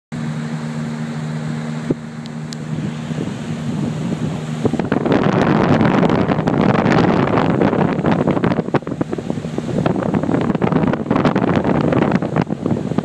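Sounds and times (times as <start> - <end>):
motorboat engine humming: 0.1 - 13.0
wind buffeting microphone: 1.8 - 13.0.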